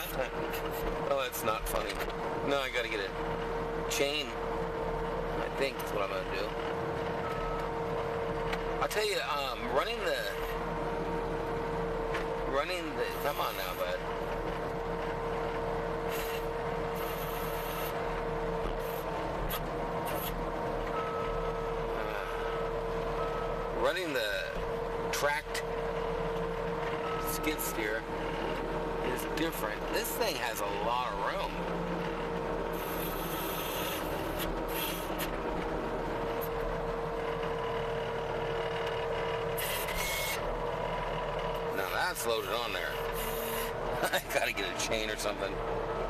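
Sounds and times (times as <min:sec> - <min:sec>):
engine running: 0:00.0 - 0:46.0
steady whine: 0:00.0 - 0:46.0.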